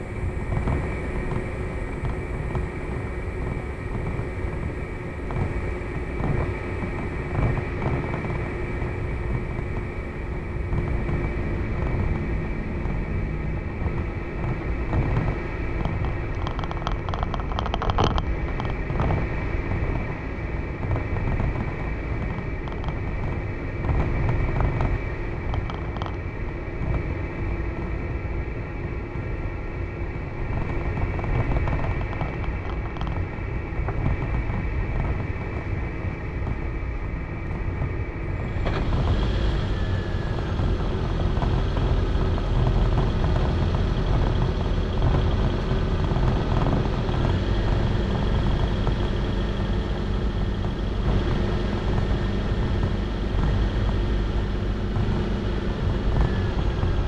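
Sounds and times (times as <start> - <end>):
vehicle rumble: 0.0 - 57.0.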